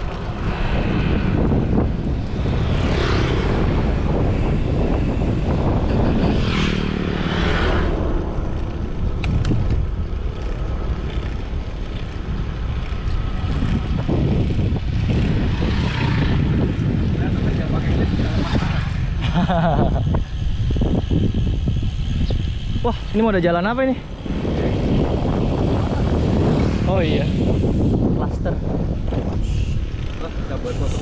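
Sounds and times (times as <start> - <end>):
tyre noise on asphalt: 0.0 - 31.0
wind buffeting microphone: 0.0 - 31.0.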